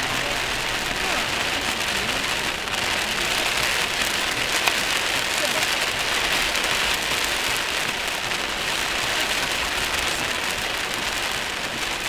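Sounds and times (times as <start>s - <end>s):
heavy rain on a moving car: 0.0s - 12.0s.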